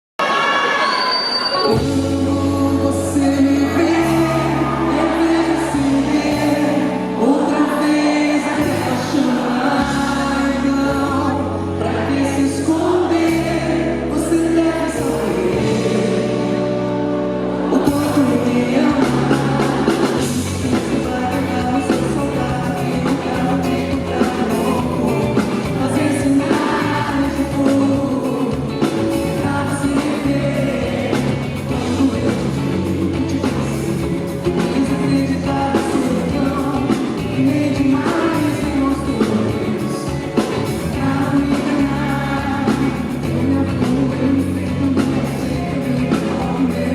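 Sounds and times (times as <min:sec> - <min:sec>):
drums: 0:00.2 - 0:46.9
live band playing pop song: 0:00.2 - 0:46.9
person singing: 0:00.6 - 0:46.9.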